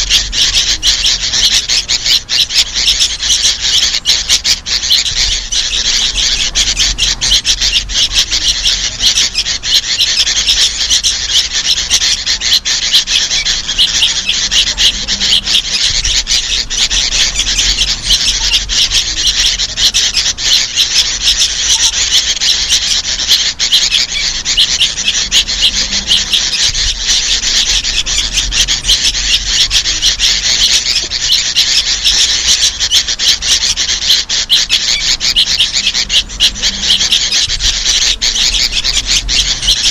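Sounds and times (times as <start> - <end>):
birds calling rapidly: 0.0 - 39.9.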